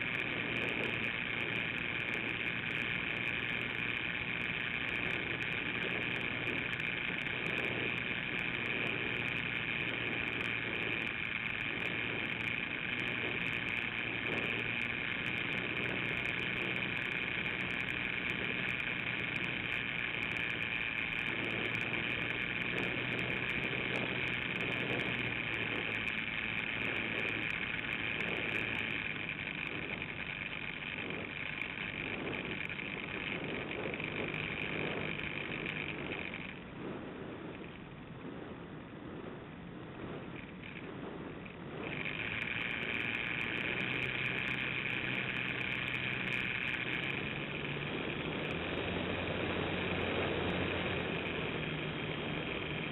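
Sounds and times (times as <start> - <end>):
airflow rush: 0.0 - 52.9
model airplane motor whine: 0.0 - 52.9.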